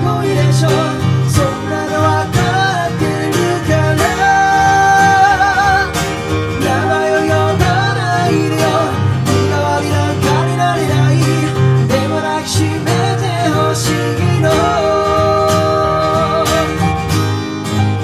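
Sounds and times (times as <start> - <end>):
person singing with vibrato: 0.0 - 17.5
acoustic guitar chords: 0.0 - 18.0.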